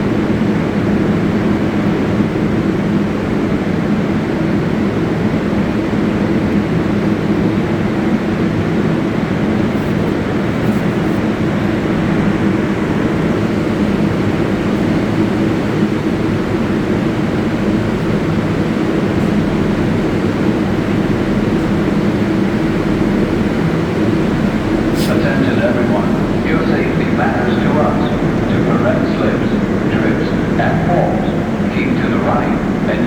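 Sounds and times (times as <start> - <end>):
subway train mechanical hum: 0.0 - 33.0.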